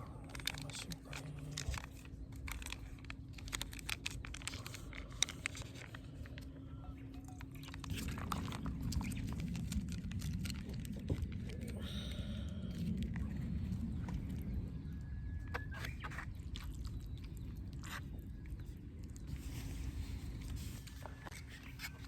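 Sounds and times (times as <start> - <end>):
low rumble: 0.0 - 21.3.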